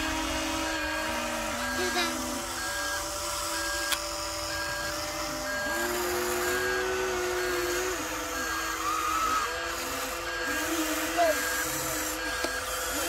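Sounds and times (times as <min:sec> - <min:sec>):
toy excavator motors whining: 0:00.0 - 0:13.0.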